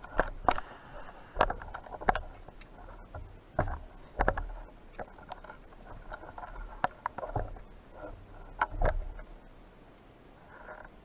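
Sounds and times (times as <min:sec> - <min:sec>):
underwater clicks and knocks: 0:00.0 - 0:09.3.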